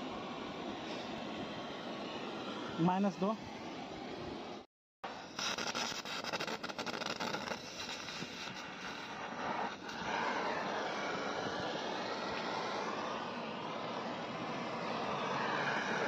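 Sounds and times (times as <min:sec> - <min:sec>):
brazing torch flame hissing: 0:00.0 - 0:16.0.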